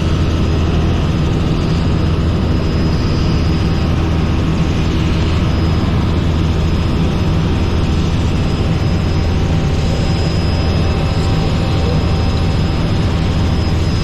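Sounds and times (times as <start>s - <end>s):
helicopter engine and rotors drone: 0.0s - 14.0s
thin high whine: 0.0s - 14.0s.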